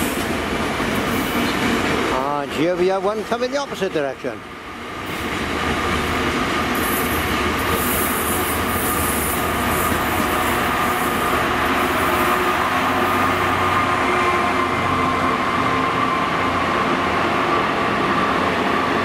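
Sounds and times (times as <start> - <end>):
train wagons rumbling on rails: 0.0 - 19.0.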